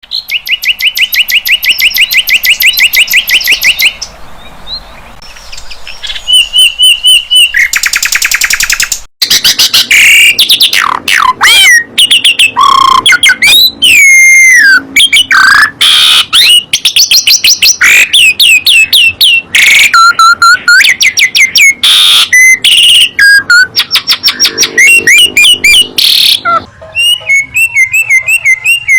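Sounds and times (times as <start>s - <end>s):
high bird trill: 0.0s - 28.9s
songbirds whistling and chattering: 0.0s - 28.9s.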